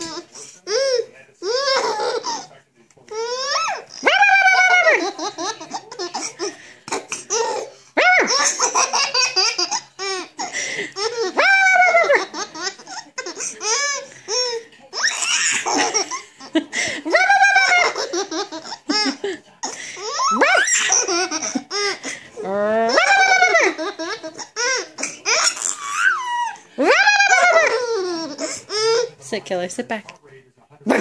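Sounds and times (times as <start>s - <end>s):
baby laughing: 0.0s - 2.5s, 3.1s - 29.1s.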